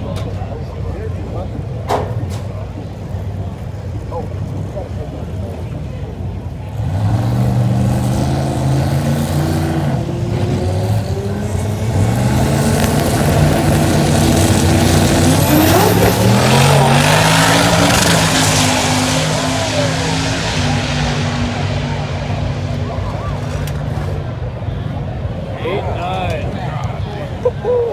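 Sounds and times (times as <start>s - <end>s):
car engine accelerating hard: 2.8s - 27.4s.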